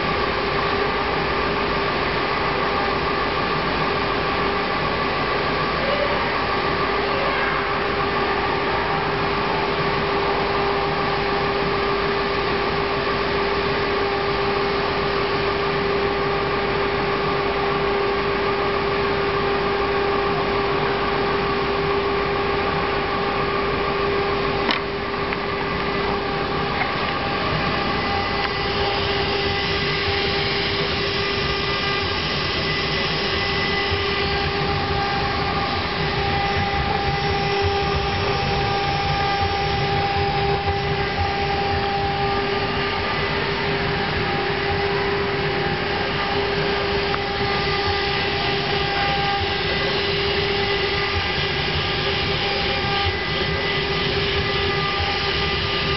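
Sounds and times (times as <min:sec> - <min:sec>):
router spindle whine: 0:00.0 - 0:55.9.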